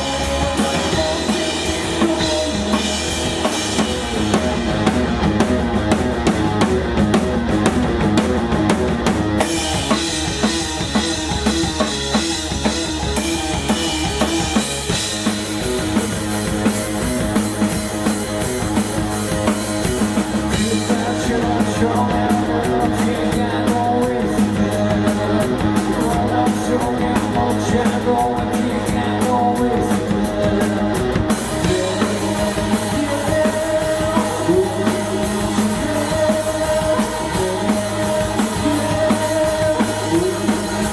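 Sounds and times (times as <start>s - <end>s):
drum kit: 0.0s - 40.9s
rock band playing live: 0.0s - 40.9s.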